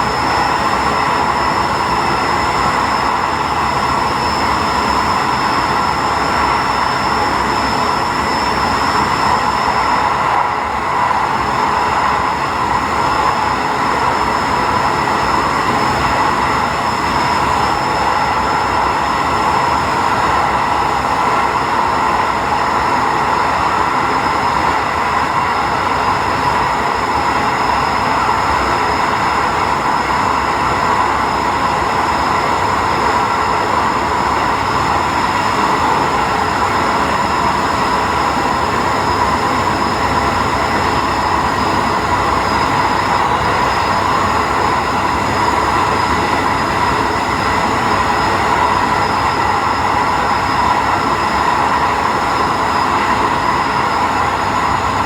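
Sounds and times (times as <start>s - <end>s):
railcar running on rails: 0.0s - 55.0s
steady whining tones: 0.0s - 55.0s.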